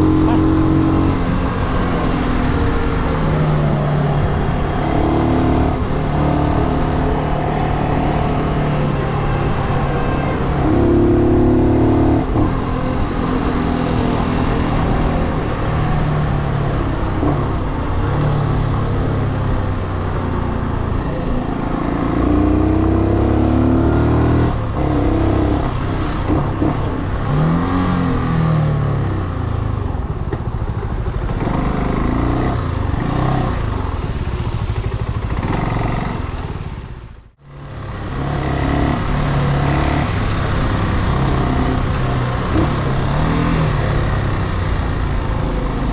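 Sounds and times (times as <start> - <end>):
motorcycle engine revving: 0.0 - 29.3, 30.4 - 45.9.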